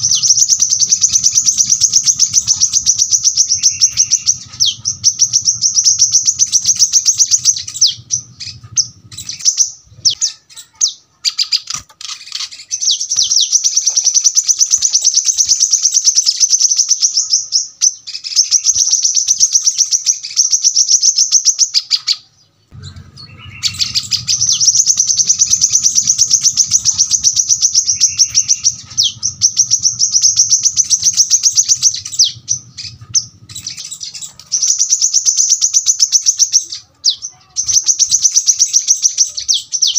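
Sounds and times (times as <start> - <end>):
sunbird singing rapid notes: 0.0 - 39.9.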